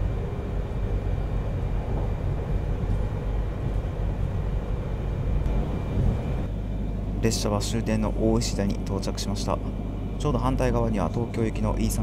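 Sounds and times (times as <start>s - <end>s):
faint steady whine: 0.0s - 12.0s
train running low rumble: 0.0s - 12.0s.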